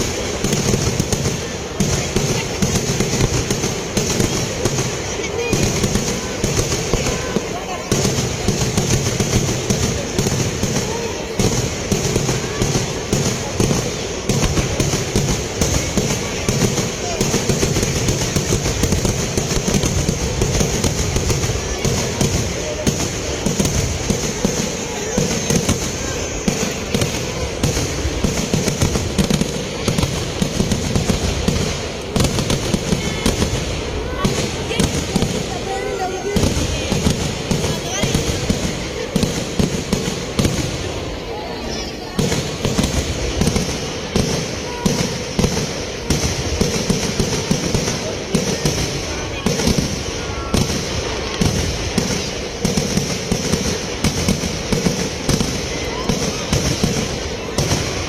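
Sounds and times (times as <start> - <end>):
firecracker bangs: 0.0 - 58.0.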